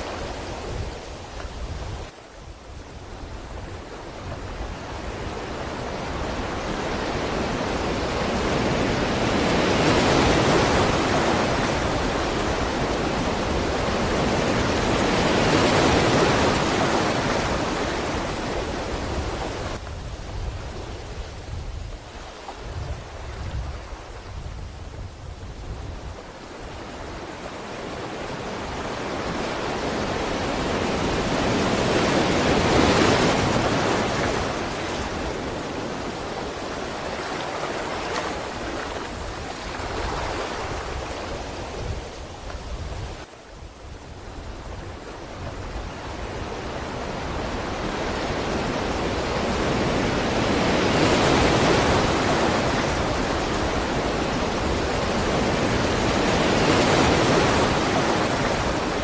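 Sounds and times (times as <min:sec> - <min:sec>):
sea waves breaking ashore: 0:00.0 - 0:59.0.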